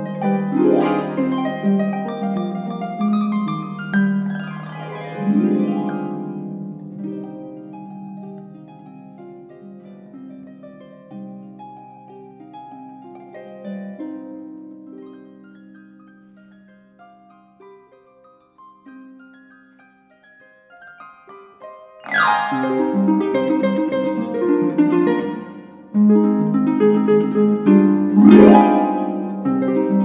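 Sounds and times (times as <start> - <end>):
harp glissando: 0.0 - 30.0
harp playing: 0.0 - 30.0.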